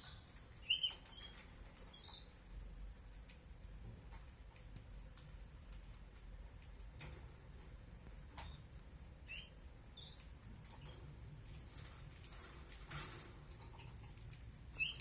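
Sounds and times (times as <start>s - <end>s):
small birds chirping: 0.0s - 12.8s, 13.5s - 15.0s.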